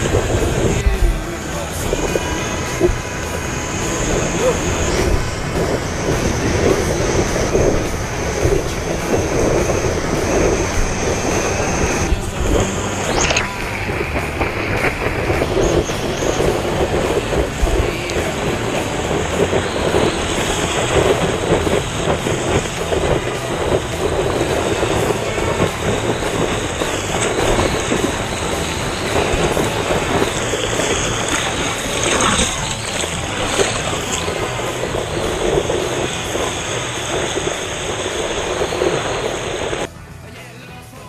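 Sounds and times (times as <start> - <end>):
seawater rushing and splashing: 0.0 - 39.9.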